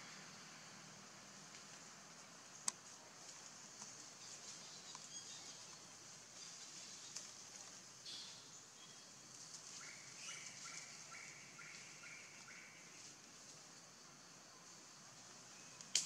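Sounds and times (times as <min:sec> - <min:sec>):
steady high hiss: 0:00.0 - 0:16.0.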